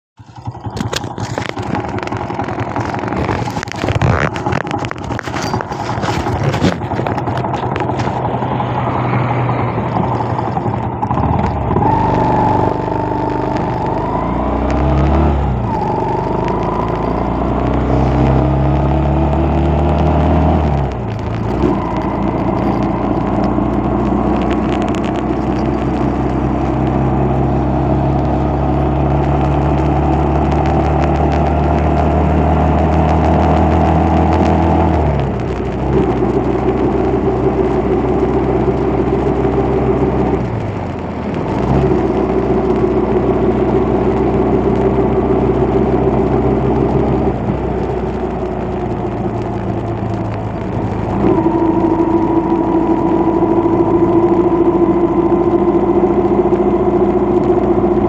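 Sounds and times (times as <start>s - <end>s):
rough wind noise: 0.2s - 58.0s
vehicle engine accelerating: 0.2s - 58.0s.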